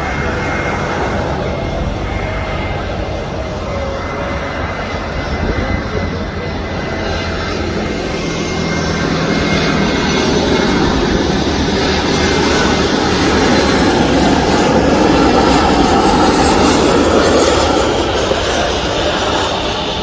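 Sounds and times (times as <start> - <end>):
jet engines landing: 0.0 - 20.0.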